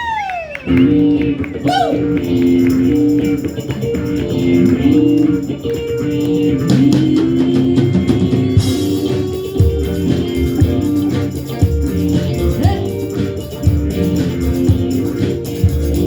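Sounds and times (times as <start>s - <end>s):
bass guitar: 0.0s - 16.0s
electric guitar bending notes: 0.1s - 16.0s
drum kit: 1.2s - 16.0s.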